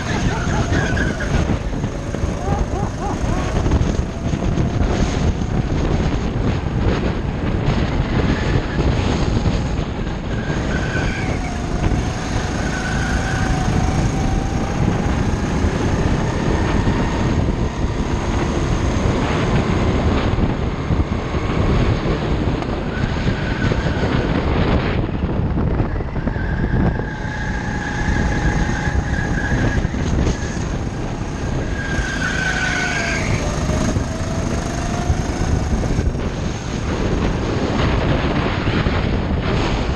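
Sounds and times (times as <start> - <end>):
go-kart engine running: 0.0 - 39.9
wind rumble on microphone: 0.0 - 39.9.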